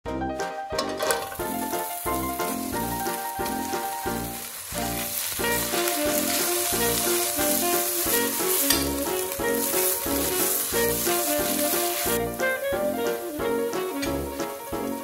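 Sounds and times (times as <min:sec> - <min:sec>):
vegetables sizzling in pan: 0:00.8 - 0:15.0.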